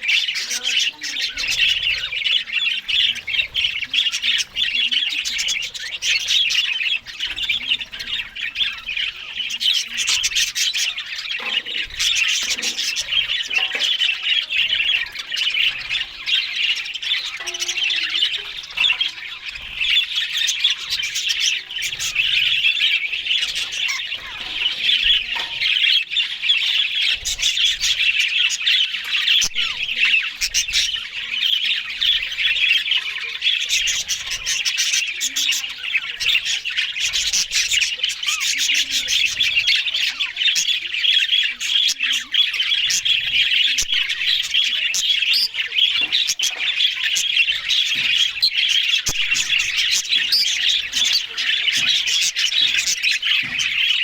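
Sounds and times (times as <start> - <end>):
budgerigars chattering: 0.0 - 54.0.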